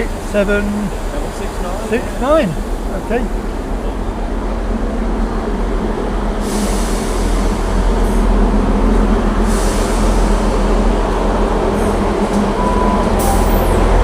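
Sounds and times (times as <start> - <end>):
train diesel engine rumbling: 0.0 - 14.0.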